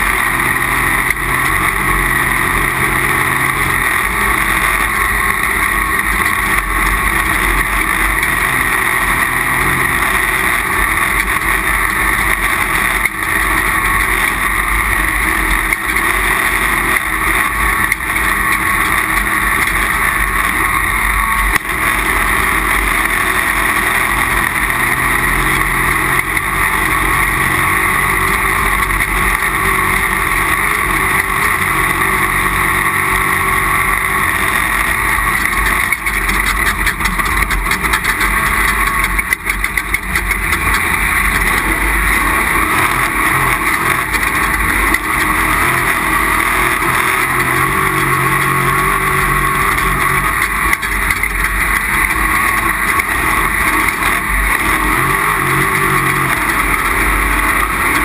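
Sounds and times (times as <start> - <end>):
engine and wind drone: 0.0 - 58.0.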